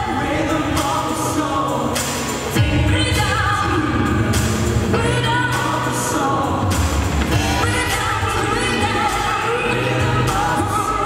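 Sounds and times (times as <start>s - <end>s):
electronic pop music: 0.0s - 11.0s
woman singing: 0.0s - 11.0s.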